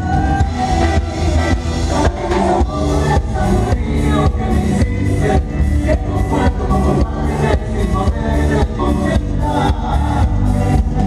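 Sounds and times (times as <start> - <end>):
bass guitar: 0.0 - 11.0
drums steady beat: 0.0 - 11.0
people singing into microphones: 0.0 - 11.0.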